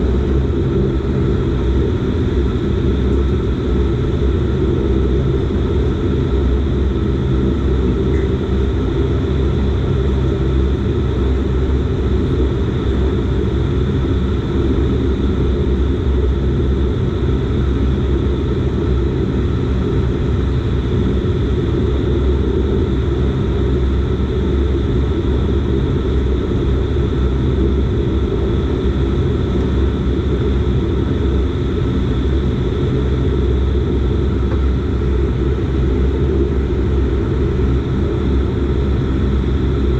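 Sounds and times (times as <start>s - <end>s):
high engine whine: 0.0s - 39.9s
turboprop engine droning: 0.0s - 39.9s.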